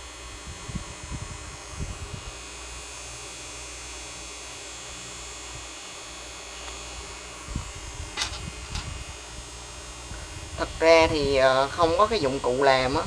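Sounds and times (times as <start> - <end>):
room noise hum and hiss: 0.0 - 13.0.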